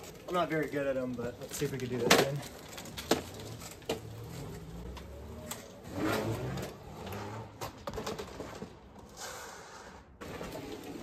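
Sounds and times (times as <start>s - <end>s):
tyre noise on concrete: 0.0s - 11.0s.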